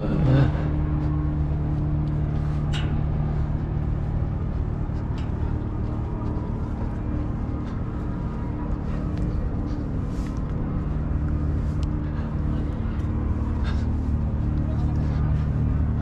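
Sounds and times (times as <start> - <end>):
ship machinery hum: 0.0 - 16.0.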